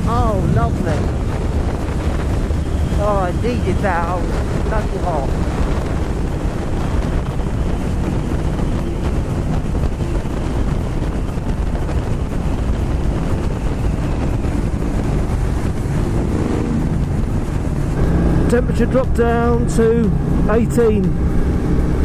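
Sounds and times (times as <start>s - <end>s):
motorcycle engine running: 0.0s - 22.0s
wind rushing on microphone: 0.0s - 22.0s.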